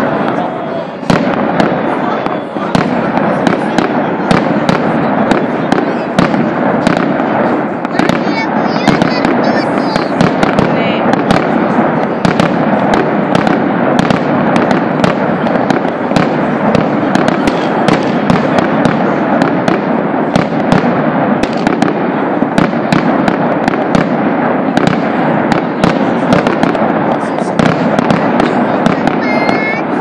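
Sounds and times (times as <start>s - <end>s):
fireworks cracks and bangs: 0.0s - 30.0s
rumble of firework bursts: 0.0s - 30.0s.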